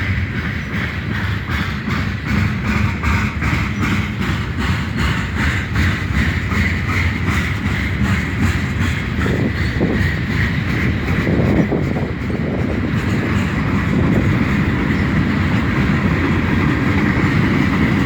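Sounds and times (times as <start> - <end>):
train cars rumbling past: 0.0 - 18.0
wheels clicking over rail joints: 0.0 - 18.0.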